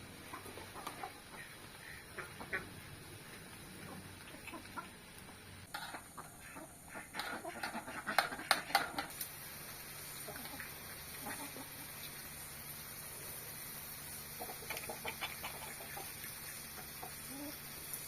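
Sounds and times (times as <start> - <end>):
chickens clucking: 0.2 - 9.2, 10.2 - 12.0, 14.2 - 17.8.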